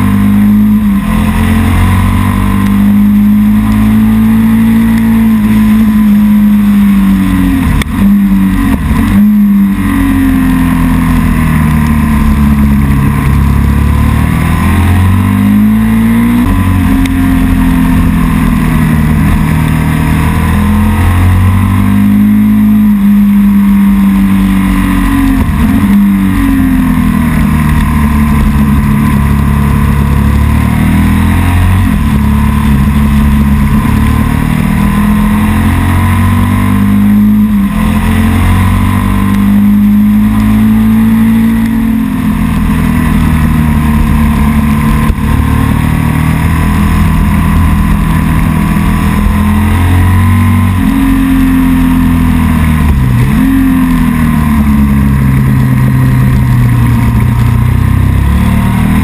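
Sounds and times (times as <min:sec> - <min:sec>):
vehicle engine revving high: 0:00.0 - 0:59.0.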